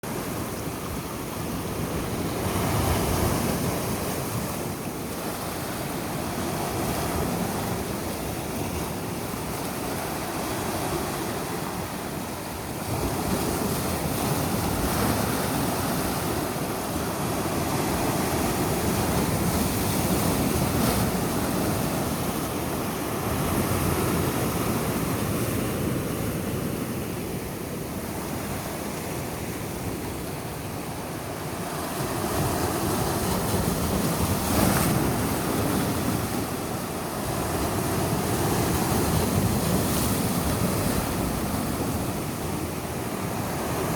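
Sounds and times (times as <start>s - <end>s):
sea waves breaking on beach: 0.0s - 43.9s.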